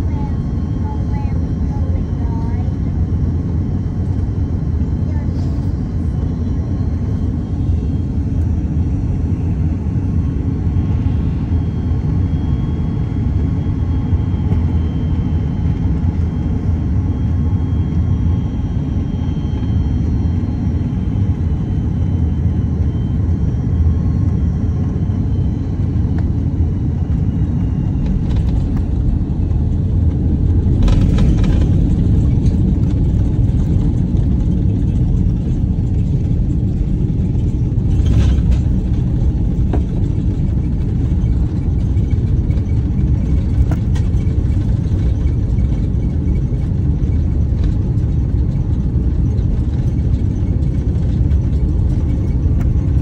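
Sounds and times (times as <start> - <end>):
aircraft engines and airflow rumble: 0.0 - 53.0.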